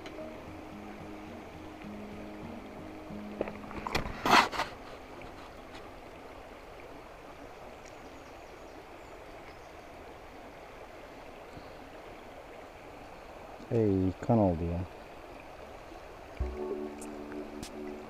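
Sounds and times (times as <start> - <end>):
creek water running over gravel: 0.0 - 18.0.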